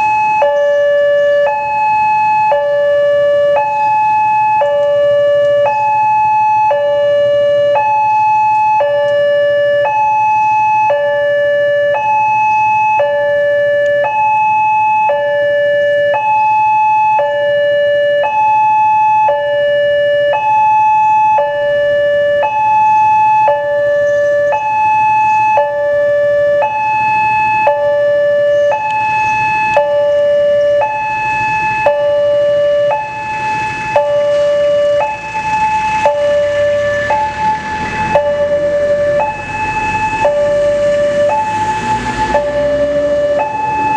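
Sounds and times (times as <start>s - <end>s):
two-tone crossing alarm: 0.0s - 43.9s.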